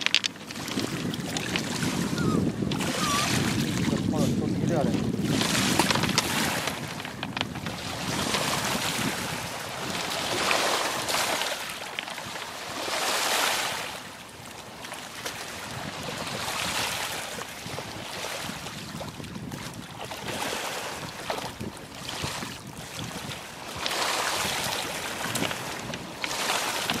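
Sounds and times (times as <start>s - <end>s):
small waves washing on pebbles: 0.0s - 27.0s.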